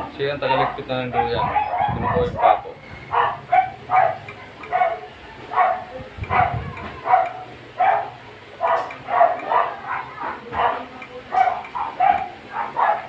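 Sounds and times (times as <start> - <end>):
dog barking: 0.4 - 13.0.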